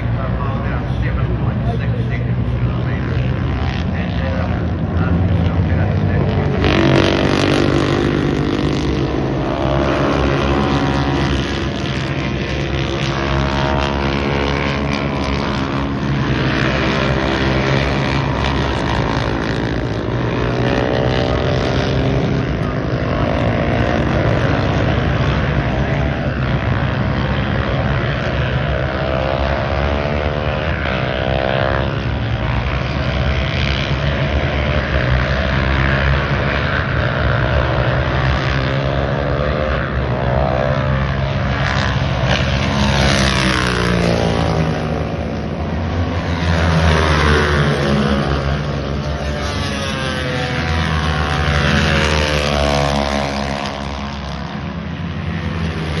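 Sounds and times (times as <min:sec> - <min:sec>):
racing motorcycle engines: 0:00.0 - 0:56.0.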